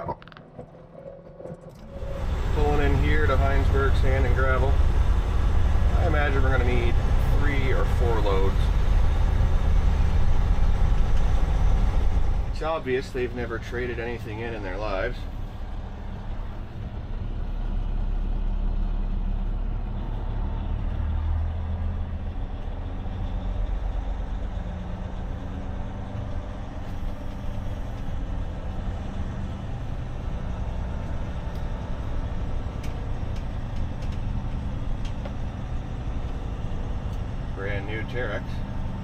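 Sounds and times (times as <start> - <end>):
truck engine running low speed: 1.6 - 39.0.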